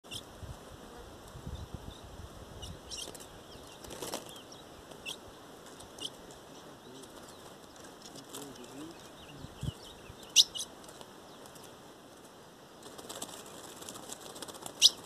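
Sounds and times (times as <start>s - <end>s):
wings fluttering: 2.6s - 15.0s.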